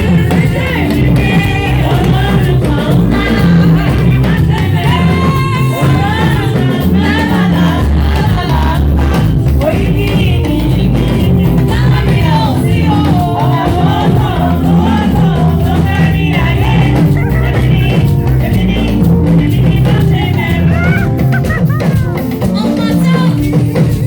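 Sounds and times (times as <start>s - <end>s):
person singing: 0.0s - 23.6s
band with bass and drums: 0.0s - 24.0s.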